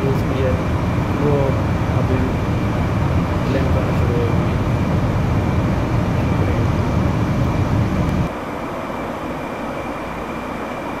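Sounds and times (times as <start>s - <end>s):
faint high hum: 0.0s - 11.0s
low rumbling background noise: 0.0s - 11.0s.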